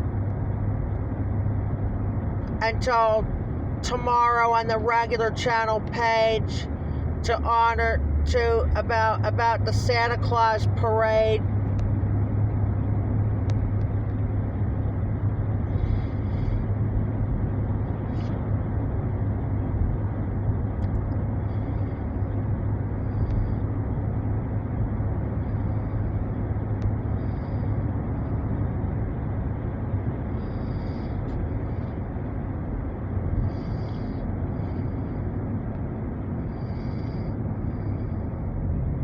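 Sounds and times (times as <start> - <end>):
road and engine noise in car cabin: 0.0 - 39.0.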